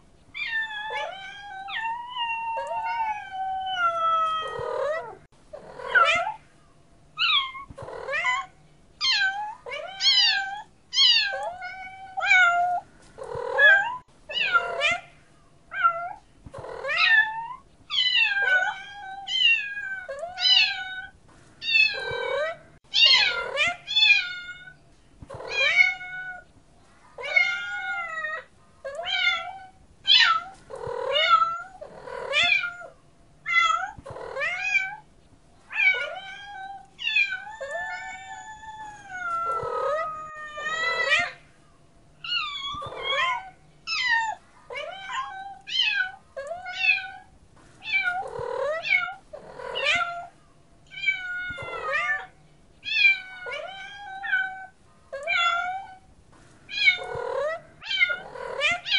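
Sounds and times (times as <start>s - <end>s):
cat meowing: 0.4s - 6.4s, 7.2s - 15.1s, 15.7s - 26.4s, 27.2s - 35.0s, 35.7s - 41.4s, 42.2s - 56.1s, 56.7s - 58.9s.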